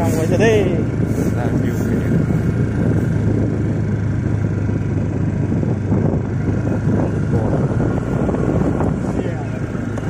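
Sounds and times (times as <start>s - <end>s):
motorcycle engine hum: 0.0s - 10.0s
road and wind rumble: 0.0s - 10.0s.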